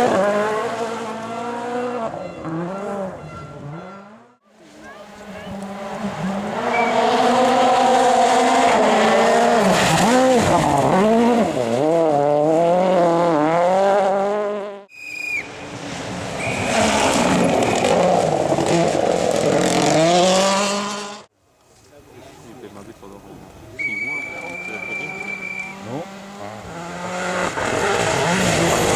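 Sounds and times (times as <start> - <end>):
rally car engine revving: 0.0 - 14.9, 15.7 - 21.3, 23.9 - 28.9.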